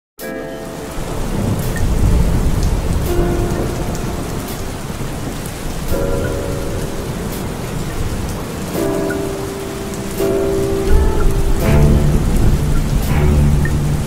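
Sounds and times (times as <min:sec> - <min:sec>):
heavy rain falling: 0:00.2 - 0:14.0
thunder rumble: 0:00.8 - 0:14.0.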